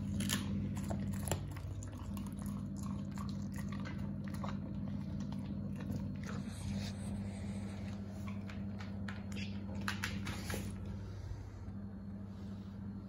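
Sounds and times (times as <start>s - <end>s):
dog chewing bones: 0.0s - 10.9s
low hum: 0.0s - 13.0s.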